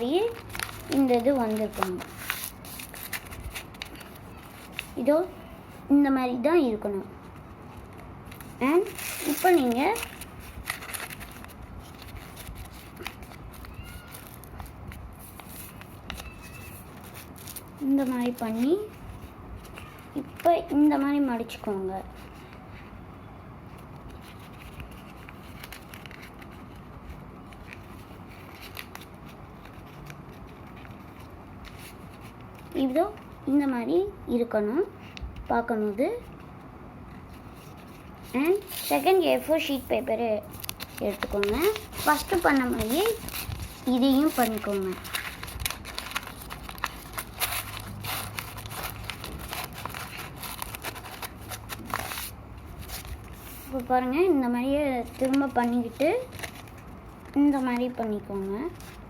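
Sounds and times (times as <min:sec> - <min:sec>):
paper crinkling: 0:00.0 - 0:05.8, 0:07.2 - 0:22.9, 0:23.7 - 0:33.8, 0:36.2 - 0:59.0.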